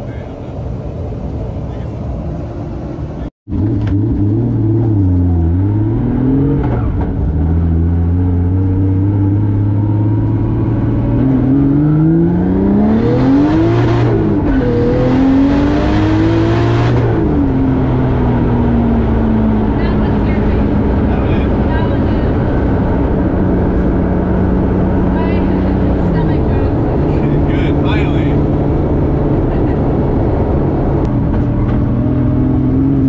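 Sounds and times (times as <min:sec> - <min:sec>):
car engine revving: 0:03.5 - 0:33.0.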